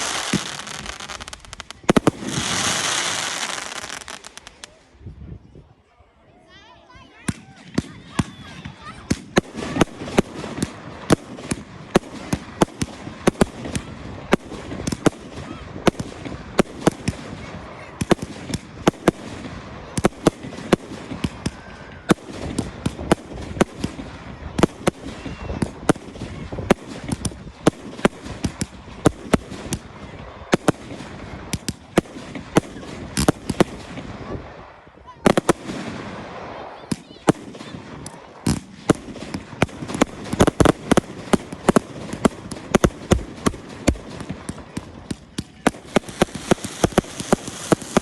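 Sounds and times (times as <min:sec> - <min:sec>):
fireworks bangs: 0:00.0 - 0:04.8, 0:07.3 - 0:48.0
fireworks crackling: 0:00.0 - 0:04.9, 0:07.3 - 0:48.0.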